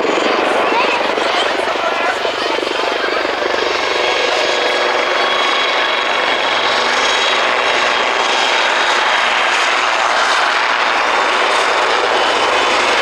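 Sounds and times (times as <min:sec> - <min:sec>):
helicopter flying low: 0:00.0 - 0:13.0
high turbine whine: 0:00.0 - 0:13.0.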